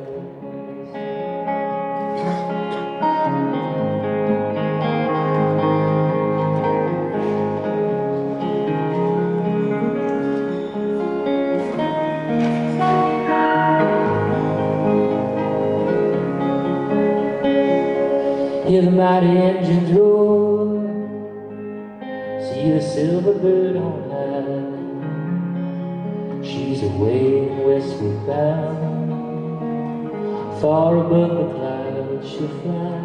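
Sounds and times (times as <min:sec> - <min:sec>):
acoustic guitar: 0:00.0 - 0:33.0
electric guitar: 0:00.0 - 0:33.0.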